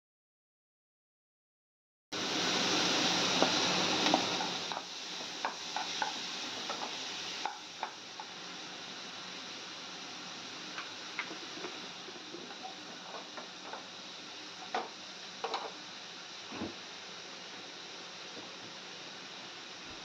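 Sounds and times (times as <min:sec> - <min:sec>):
onions sizzling in oil: 0:02.2 - 0:20.0.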